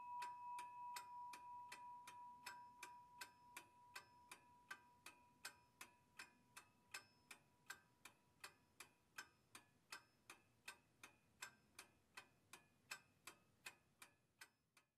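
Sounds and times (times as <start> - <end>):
clock ticking: 0.0 - 14.9.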